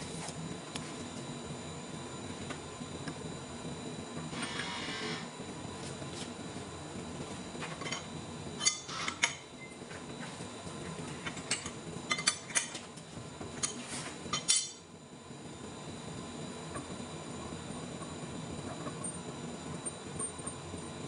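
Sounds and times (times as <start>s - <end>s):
workshop hum: 0.0s - 21.0s.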